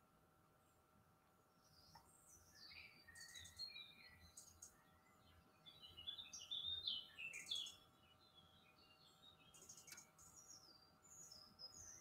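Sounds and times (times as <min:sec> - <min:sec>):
faint bird song: 0:00.0 - 0:12.0.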